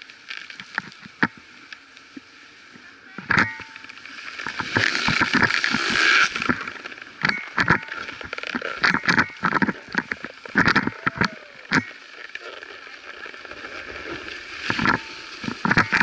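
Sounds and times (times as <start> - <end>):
skis scraping over packed snow: 0.0 - 16.0
ski gear clicks and knocks: 0.1 - 1.8, 3.2 - 16.0.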